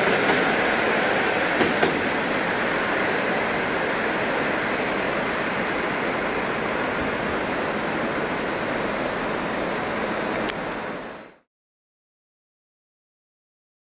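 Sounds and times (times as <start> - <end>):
passenger train rumbling away: 0.0 - 11.4.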